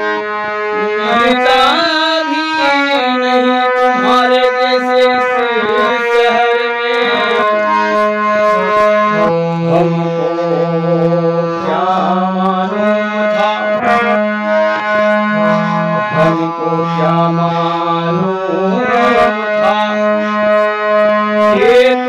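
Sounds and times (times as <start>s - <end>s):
harmonium melody: 0.0s - 22.0s.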